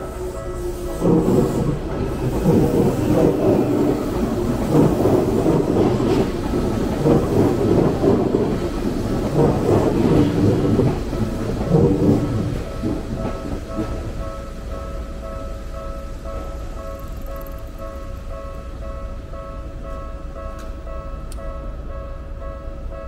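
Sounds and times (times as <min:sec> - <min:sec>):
train passing rumble: 0:00.0 - 0:23.0.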